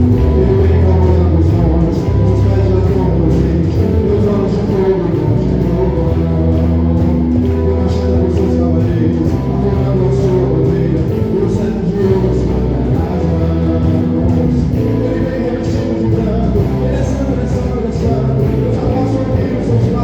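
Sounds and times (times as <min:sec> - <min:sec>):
worship band music: 0:00.0 - 0:20.0.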